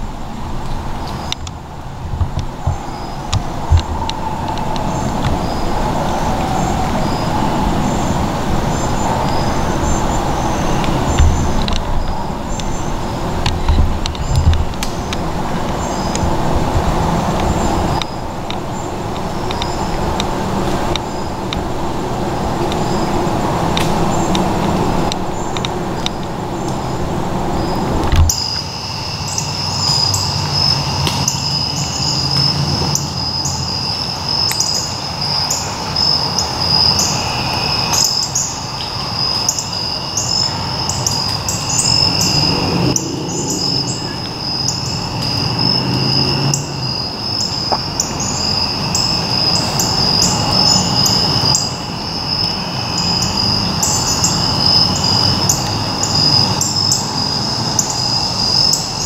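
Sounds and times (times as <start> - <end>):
insect chirps: 0.0 - 59.0
lower insect trill: 0.3 - 59.0
high-pitched insect trill: 2.7 - 13.2, 17.5 - 59.0.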